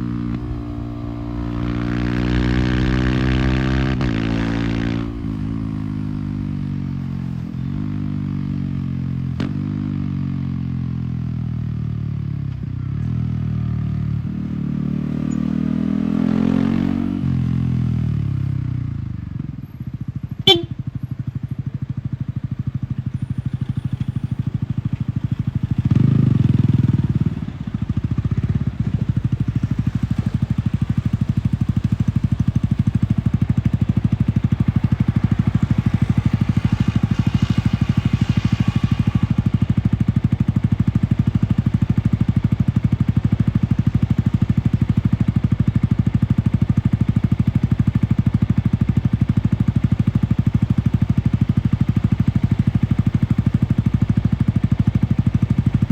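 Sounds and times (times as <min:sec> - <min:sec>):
motorcycle engine revving: 0:00.0 - 0:11.8, 0:13.7 - 0:19.3, 0:20.4 - 0:20.8, 0:21.9 - 0:55.9.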